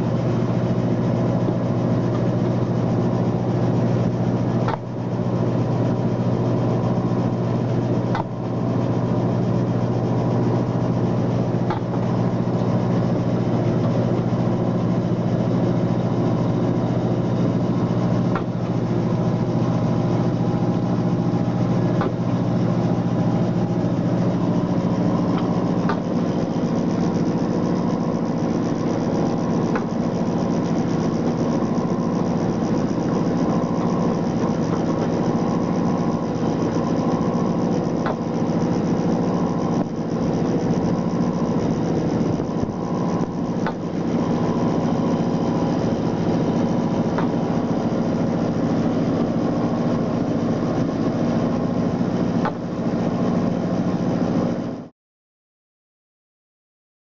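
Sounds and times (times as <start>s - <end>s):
boat engine and deck machinery: 0.0s - 54.9s.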